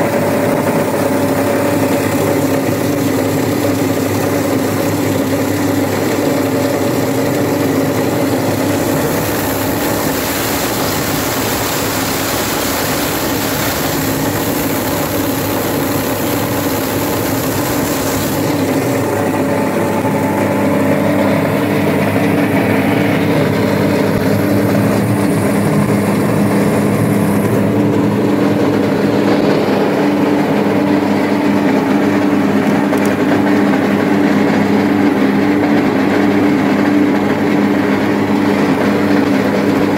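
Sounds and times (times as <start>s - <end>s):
plastic shredder machine running: 0.0s - 39.9s.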